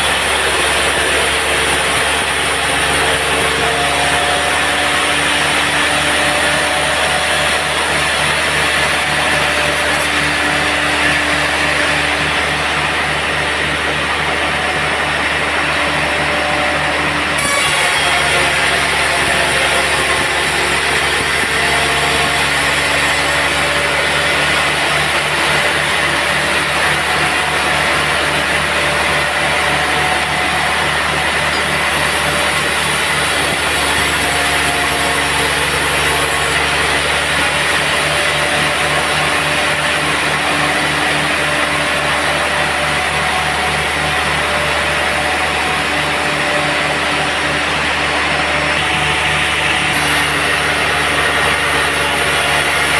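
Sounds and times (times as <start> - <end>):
sawmill machinery droning: 0.0 - 52.9.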